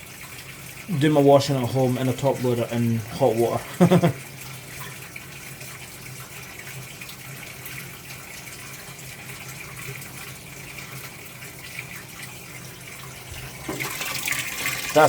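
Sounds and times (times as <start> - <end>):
washing machine low hum: 0.0 - 15.0
water rushing into tub: 0.0 - 15.0.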